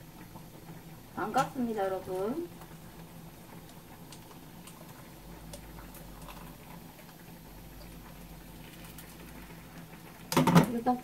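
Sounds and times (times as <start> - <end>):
omelette crackling in frying pan: 0.0 - 11.0.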